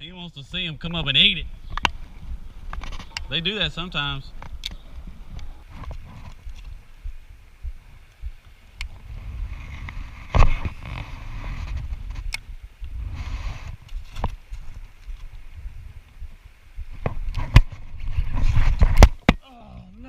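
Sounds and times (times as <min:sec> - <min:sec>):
wind buffeting microphone: 0:00.0 - 0:19.4.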